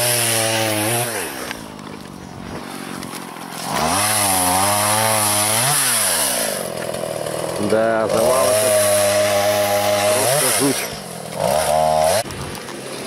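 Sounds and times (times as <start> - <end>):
chainsaw revving and sawing wood: 0.0 - 13.0.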